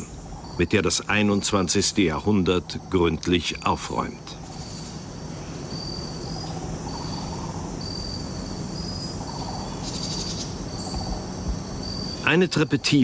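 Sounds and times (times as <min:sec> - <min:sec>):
insects chirping: 0:00.0 - 0:13.0
low steady hum: 0:00.0 - 0:13.0.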